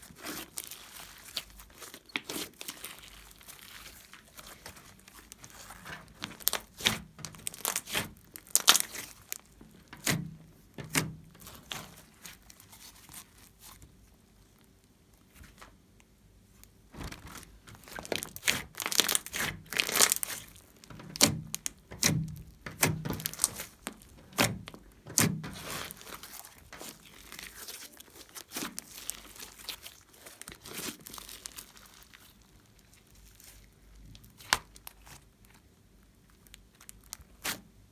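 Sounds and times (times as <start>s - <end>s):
slime crackling and popping: 0.0s - 10.2s, 17.0s - 37.7s.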